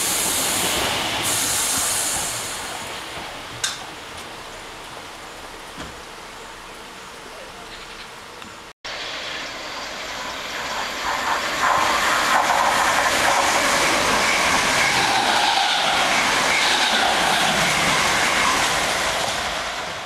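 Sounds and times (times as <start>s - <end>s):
train wheels rushing on rail: 0.0s - 6.8s, 8.9s - 20.0s.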